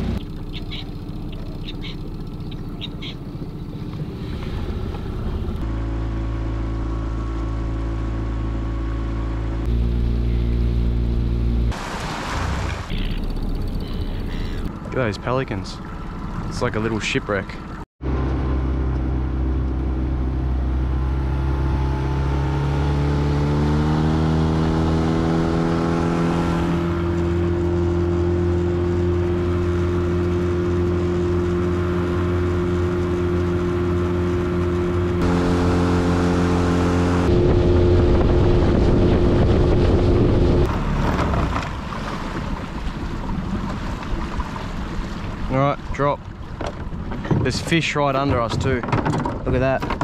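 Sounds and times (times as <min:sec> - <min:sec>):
outboard motor running: 0:00.0 - 0:50.0
water and wind noise: 0:00.0 - 0:50.0.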